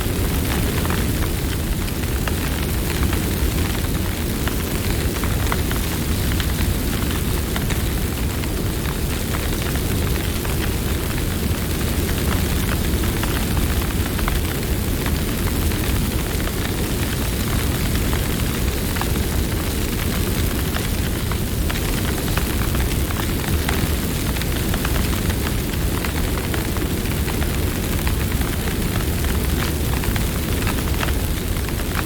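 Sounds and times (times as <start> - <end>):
campfire flames roaring: 0.0 - 32.0
wood crackling and popping: 0.0 - 32.0.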